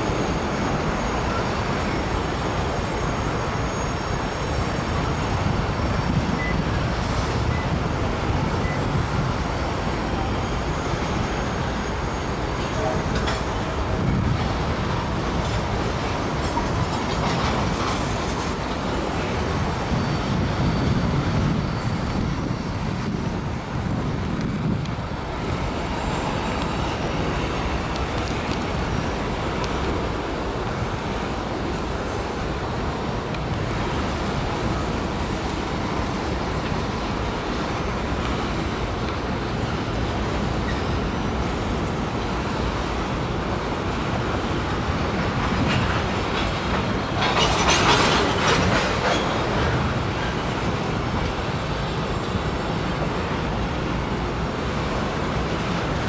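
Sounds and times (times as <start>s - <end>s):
freight train rumbling over bridge: 0.0s - 56.0s.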